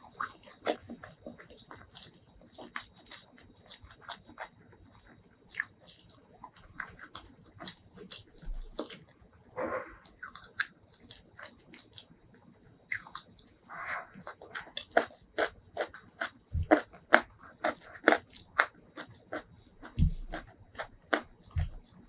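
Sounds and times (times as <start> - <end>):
close chewing with mouth smacks: 0.0 - 9.2, 10.0 - 12.3, 12.9 - 13.6, 14.2 - 22.0.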